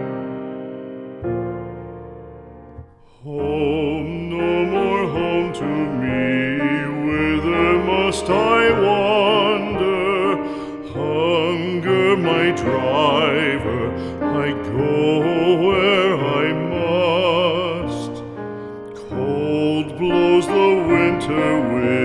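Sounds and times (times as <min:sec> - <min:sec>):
piano chord: 0:00.0 - 0:22.0
vibrato melody over piano: 0:00.0 - 0:22.0.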